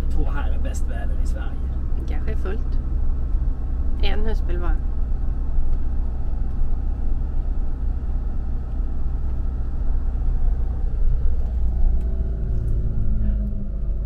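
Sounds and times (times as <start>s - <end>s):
vehicle road and engine rumble: 0.0s - 14.0s.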